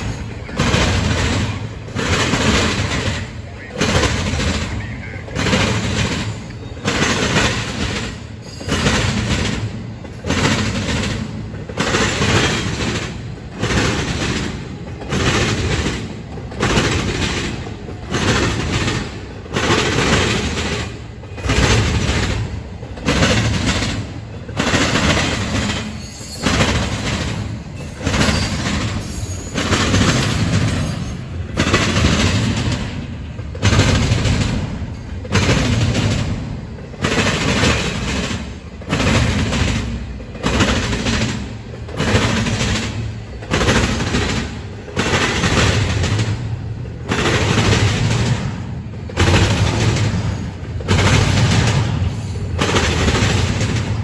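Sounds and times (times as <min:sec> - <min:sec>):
rolling train rumble: 0:00.0 - 0:54.0
train wheels clattering over rails: 0:00.0 - 0:54.0.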